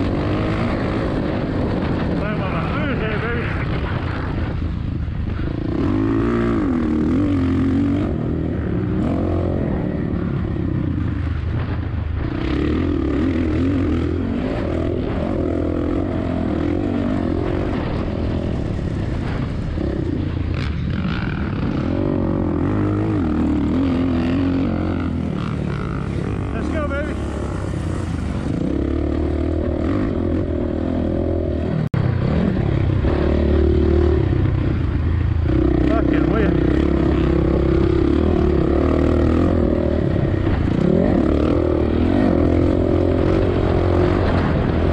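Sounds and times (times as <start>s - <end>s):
dirt bike engine revving: 0.0s - 44.9s
track noise: 0.0s - 44.9s.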